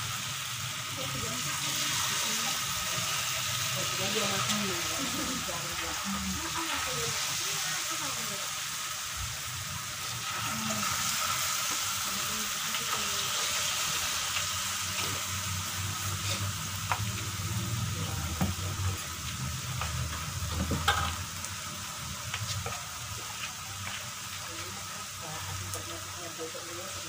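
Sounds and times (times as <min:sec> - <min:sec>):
batter sizzling in hot oil: 0:00.0 - 0:27.0.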